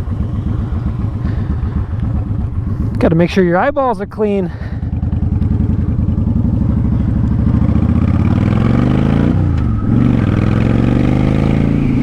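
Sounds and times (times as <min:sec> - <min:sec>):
motorcycle engine accelerating: 0:00.0 - 0:03.8, 0:04.4 - 0:12.0.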